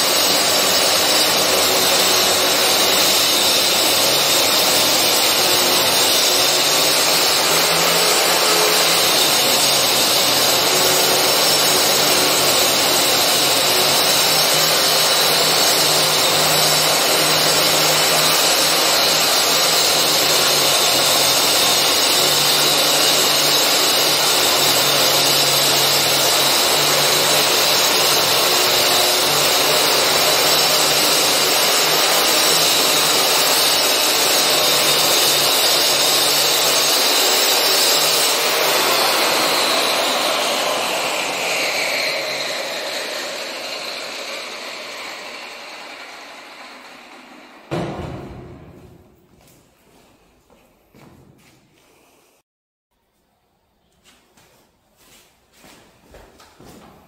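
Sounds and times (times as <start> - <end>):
power tool cutting into wall: 0.0 - 48.8.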